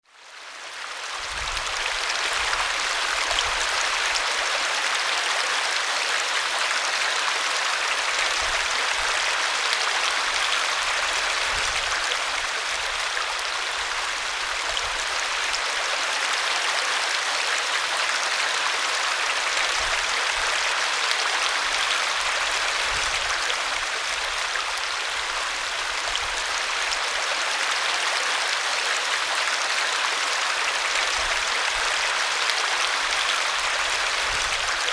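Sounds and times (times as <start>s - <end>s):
stream water flowing: 0.2s - 34.9s.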